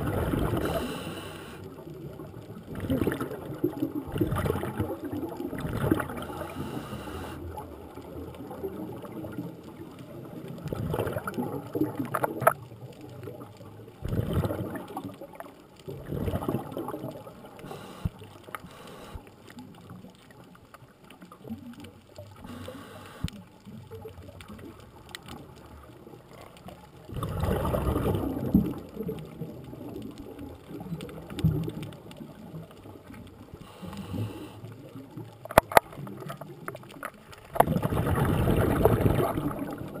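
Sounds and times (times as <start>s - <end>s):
underwater exhaled bubbles gurgling: 0.0s - 40.0s.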